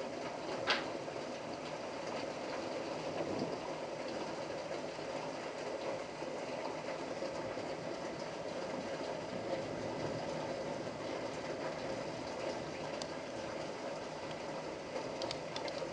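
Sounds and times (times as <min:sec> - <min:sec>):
rain: 0:00.0 - 0:15.9
wind: 0:00.0 - 0:15.9.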